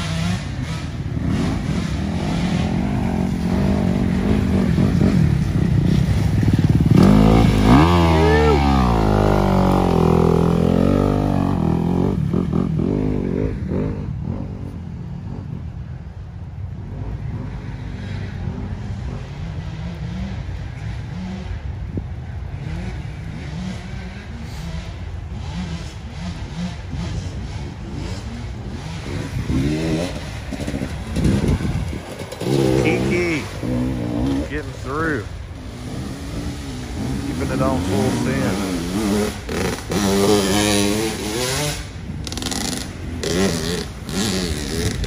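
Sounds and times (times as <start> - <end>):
dirt bike engines revving: 0.0 - 45.0.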